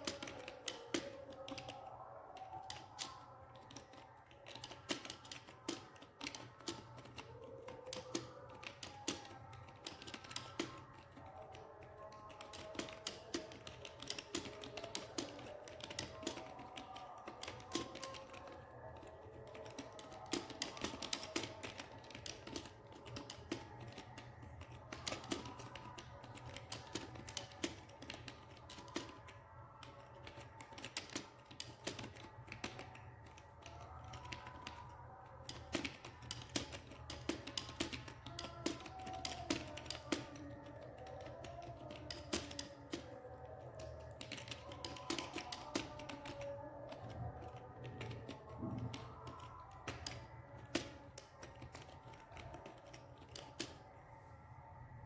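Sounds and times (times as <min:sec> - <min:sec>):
keyboard typing: 0:00.0 - 0:55.0.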